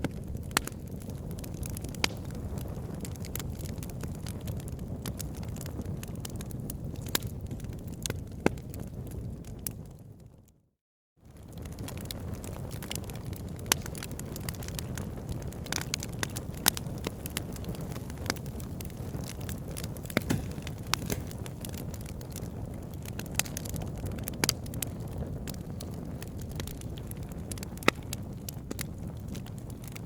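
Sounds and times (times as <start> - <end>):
campfire crackling and popping: 0.0 - 10.3, 11.3 - 30.0.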